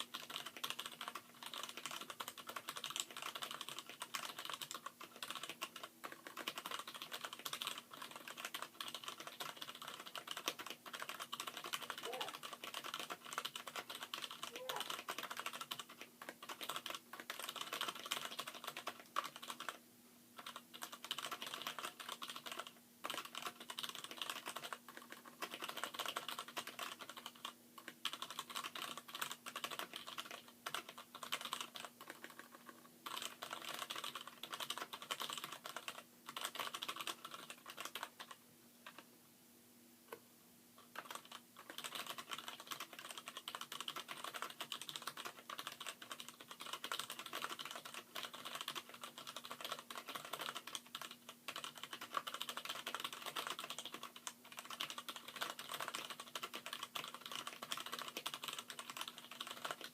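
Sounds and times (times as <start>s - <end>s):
fast mechanical keyboard typing: 0.0s - 19.8s, 20.4s - 39.0s, 40.8s - 59.9s.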